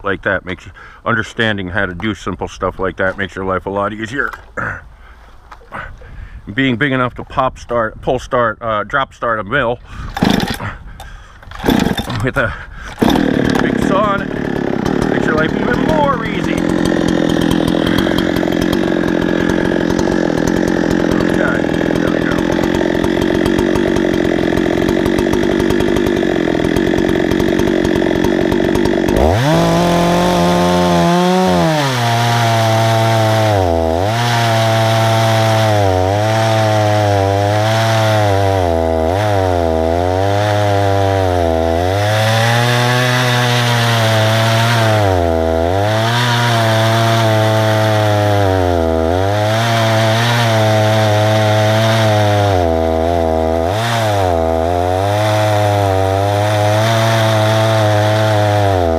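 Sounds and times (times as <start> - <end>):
chainsaw cutting wood: 9.9 - 58.9.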